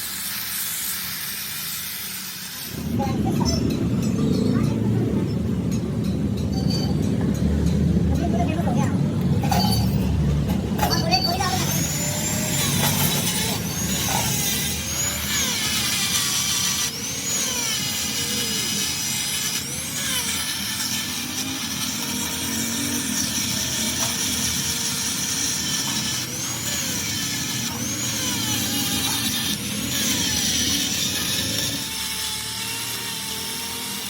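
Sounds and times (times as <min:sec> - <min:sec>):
power tool whining on metal: 0:00.0 - 0:07.8, 0:08.5 - 0:34.0.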